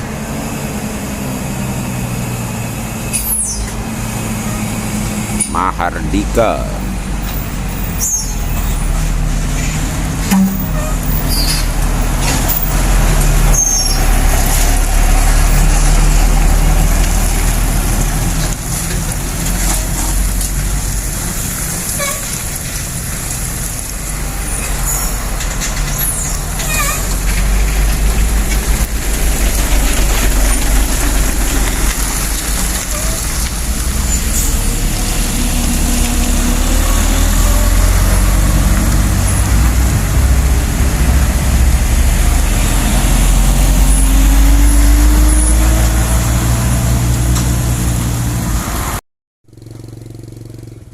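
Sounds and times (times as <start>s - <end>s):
diesel truck engine rumbling: 0.0s - 49.0s.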